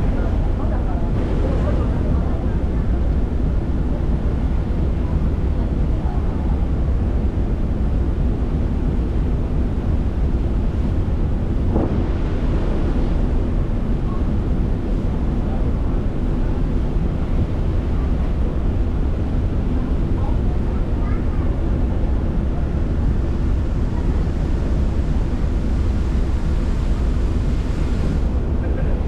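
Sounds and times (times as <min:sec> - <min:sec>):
wind buffeting microphone: 0:00.0 - 0:28.6
ferry engine droning: 0:00.0 - 0:29.0
water rushing along hull: 0:00.0 - 0:29.0.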